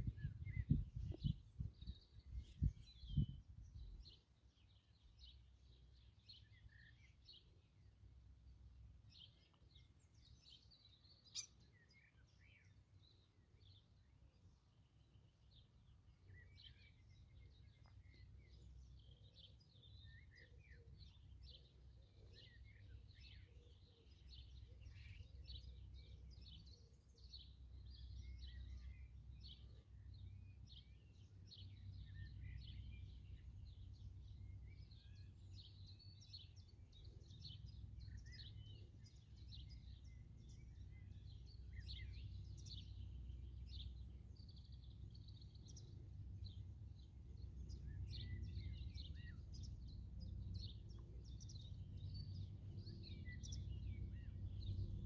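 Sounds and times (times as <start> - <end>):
faint low rumble: 0.0 - 55.0
songbirds chirping and singing: 0.0 - 55.0.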